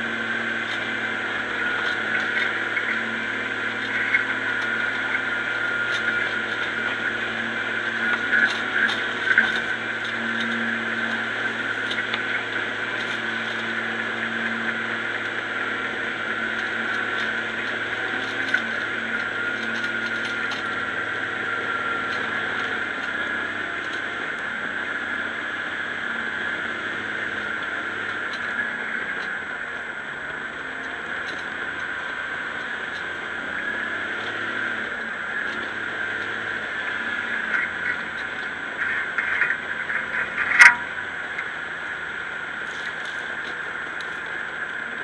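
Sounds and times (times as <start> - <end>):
diesel tractor engine running: 0.0 - 45.0
high whine: 0.0 - 45.0.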